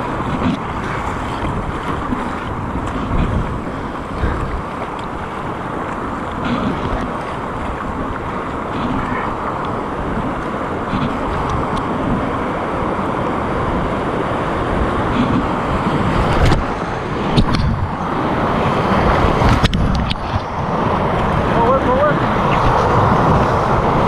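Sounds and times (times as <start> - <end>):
whitewater river rushing: 0.0 - 24.0
wind buffeting microphone: 0.0 - 24.0.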